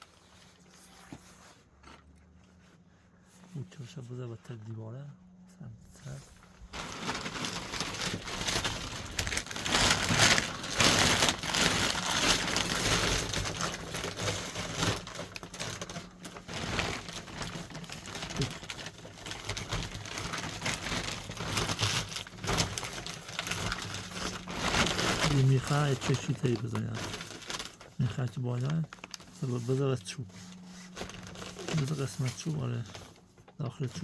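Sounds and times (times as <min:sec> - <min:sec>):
plastic sheeting crinkling: 0:06.0 - 0:34.0.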